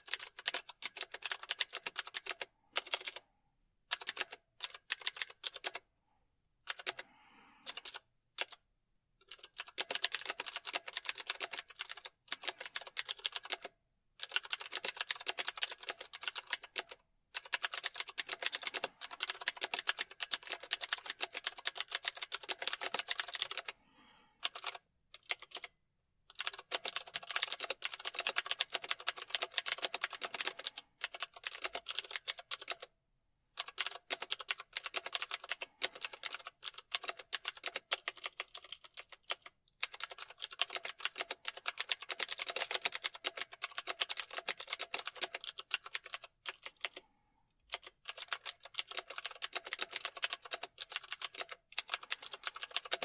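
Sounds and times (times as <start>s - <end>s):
typing on computer keyboard: 0.0s - 3.2s, 3.9s - 5.8s, 6.6s - 7.0s, 7.6s - 8.6s, 9.2s - 23.8s, 24.4s - 32.9s, 33.6s - 47.1s, 47.7s - 53.0s.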